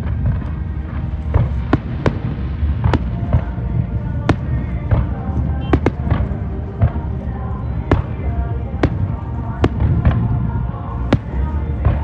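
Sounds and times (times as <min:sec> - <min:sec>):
fireworks bangs: 0:00.0 - 0:07.2, 0:07.9 - 0:12.0
music playing: 0:00.0 - 0:12.0.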